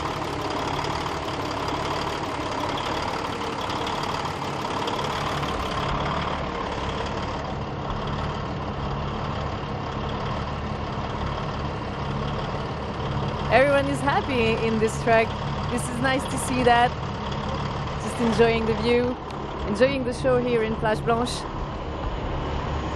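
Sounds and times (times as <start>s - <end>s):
diesel truck engines idling: 0.0s - 22.9s.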